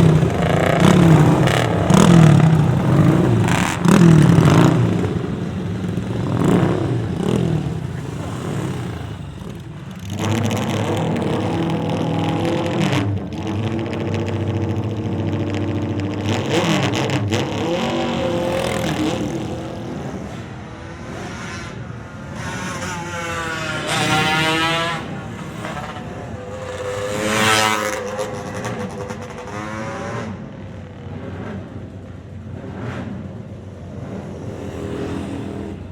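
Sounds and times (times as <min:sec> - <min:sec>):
motorcycle engines revving and passing: 0:00.0 - 0:35.9.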